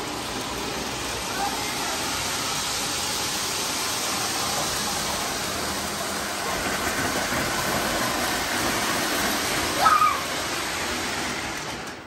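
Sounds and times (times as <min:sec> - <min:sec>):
model trains rolling on rails: 0:00.0 - 0:12.0.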